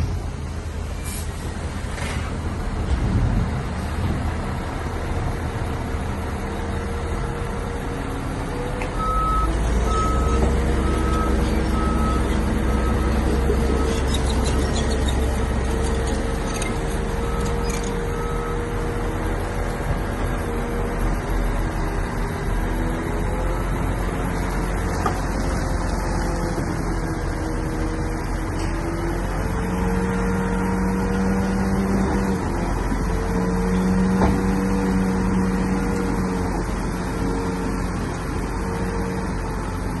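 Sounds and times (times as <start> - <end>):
diesel engine droning with whine: 0.0 - 40.0.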